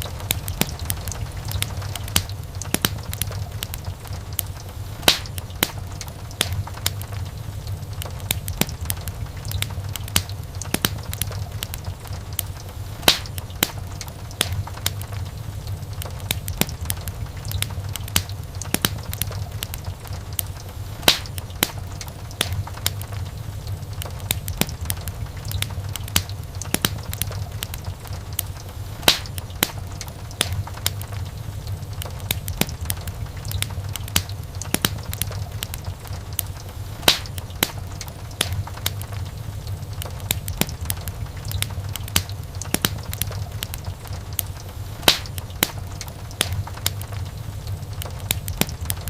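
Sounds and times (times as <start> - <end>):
low rumble of flames: 0.0 - 49.0
wood fire crackling and popping: 0.0 - 49.0.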